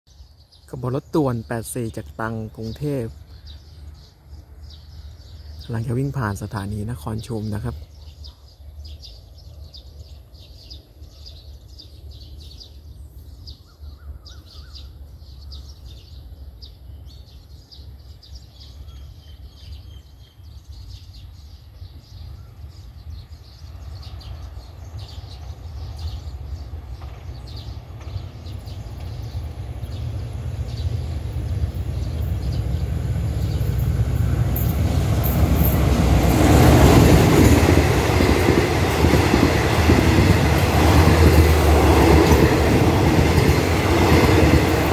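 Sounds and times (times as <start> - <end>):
birds chirping: 0.1 - 44.9
train approaching: 0.2 - 44.9.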